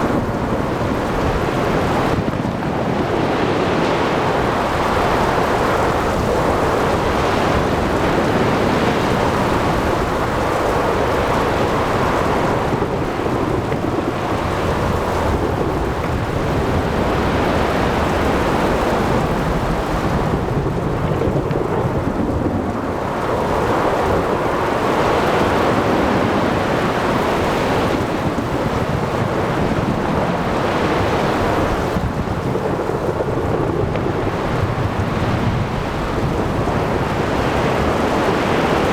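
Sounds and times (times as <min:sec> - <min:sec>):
rain: 0:00.0 - 0:38.9.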